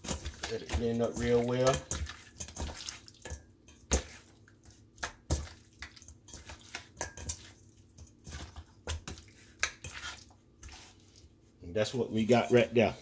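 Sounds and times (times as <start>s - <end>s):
meat squelching in metal bowl: 0.0s - 12.8s.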